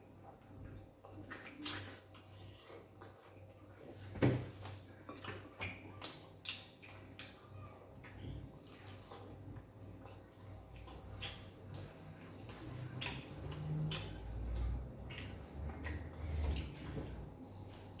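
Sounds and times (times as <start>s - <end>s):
wet chewing and squelching: 0.0s - 18.0s.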